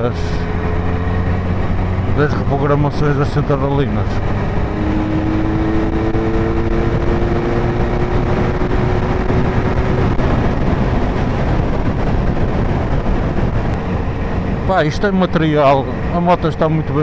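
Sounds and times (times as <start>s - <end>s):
motorcycle engine running: 0.0s - 14.9s
wind rushing over microphone: 0.0s - 17.0s.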